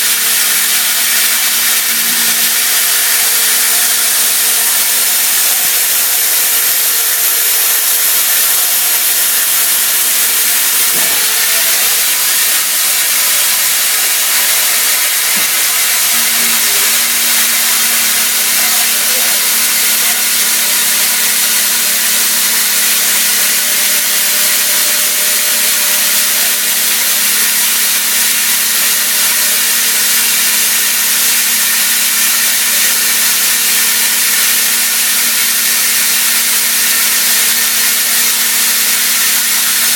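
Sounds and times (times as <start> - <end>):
milling machine hiss: 0.0 - 39.9.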